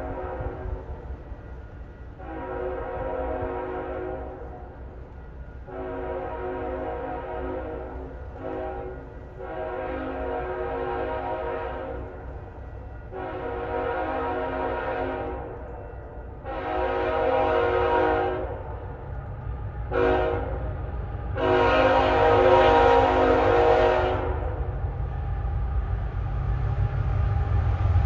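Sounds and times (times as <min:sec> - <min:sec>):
train horn blasts: 0:00.0 - 0:05.0, 0:05.6 - 0:19.1, 0:19.8 - 0:25.0
locomotive rumble: 0:00.0 - 0:28.0.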